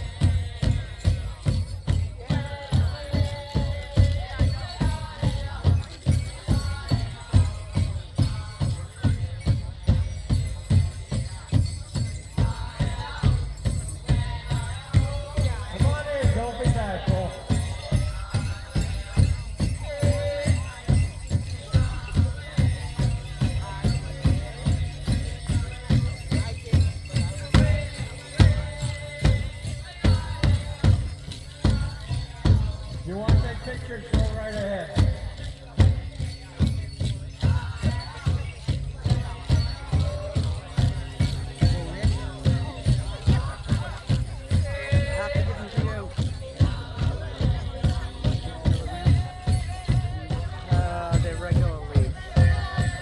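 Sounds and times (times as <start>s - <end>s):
jingling bells: 0.0s - 53.0s
large drum steady beat: 0.0s - 53.0s
singers high chanting: 0.0s - 53.0s.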